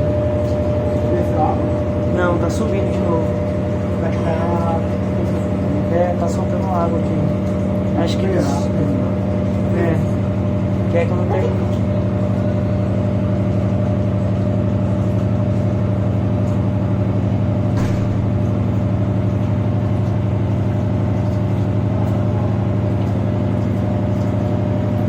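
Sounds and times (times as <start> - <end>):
washing machine spinning: 0.0 - 25.0.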